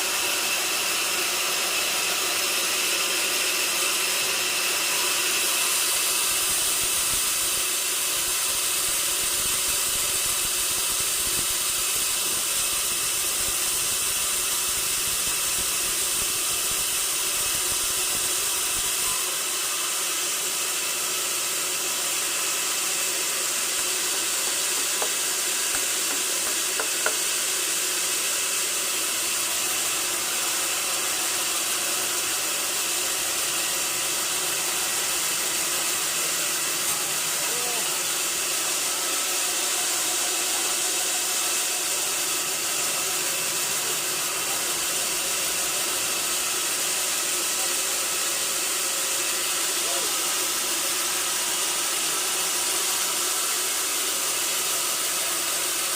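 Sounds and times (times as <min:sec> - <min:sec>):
saw running with high hiss: 0:00.0 - 0:55.9.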